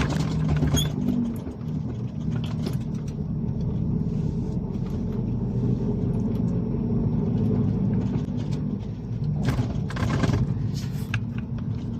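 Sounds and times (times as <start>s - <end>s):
truck engine rumbling: 0.0s - 11.9s.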